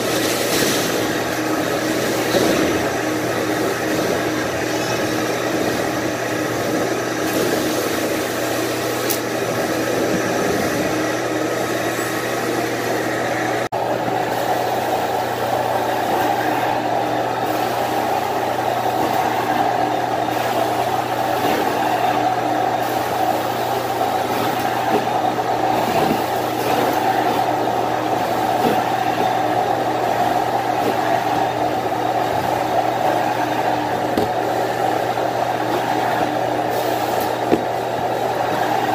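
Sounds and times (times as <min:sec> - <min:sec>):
carpet cleaning machine droning: 0:00.0 - 0:38.9.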